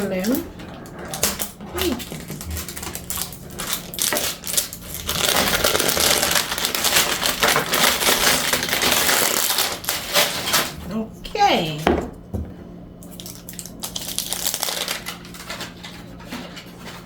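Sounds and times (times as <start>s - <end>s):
packaging crinkling and rustling: 0.0s - 10.8s, 13.1s - 17.0s.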